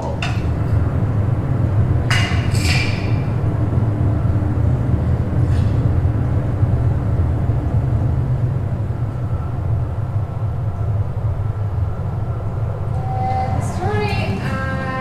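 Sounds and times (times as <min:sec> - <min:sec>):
faint steady tones: 0:00.0 - 0:15.0
low droning rumble: 0:00.0 - 0:15.0.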